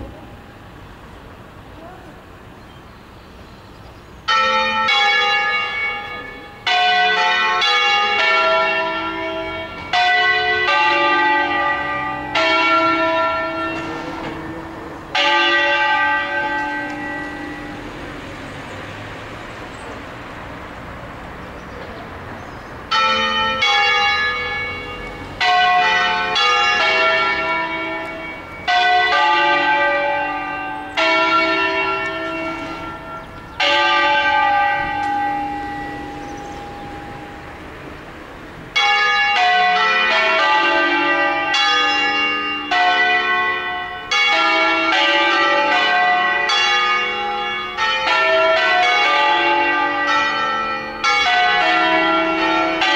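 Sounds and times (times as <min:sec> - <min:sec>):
church bells ringing: 0:00.0 - 0:03.1, 0:03.8 - 0:52.9.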